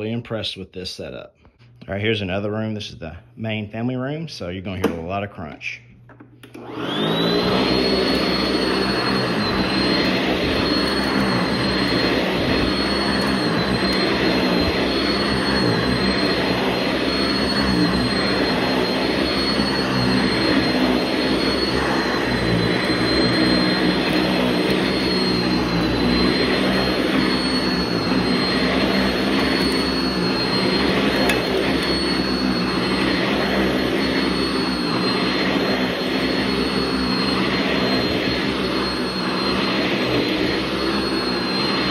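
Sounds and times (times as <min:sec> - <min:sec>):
upright vacuum cleaner whining: 0:05.9 - 0:41.9.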